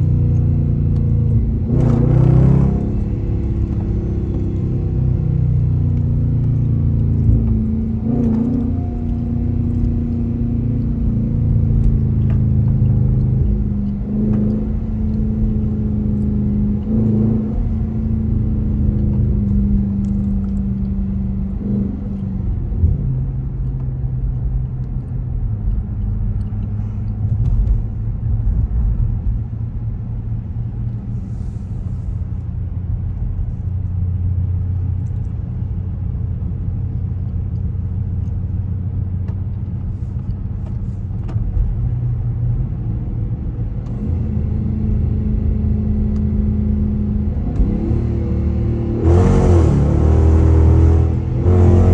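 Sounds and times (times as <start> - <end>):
car engine and exhaust rumble: 0.0 - 51.9.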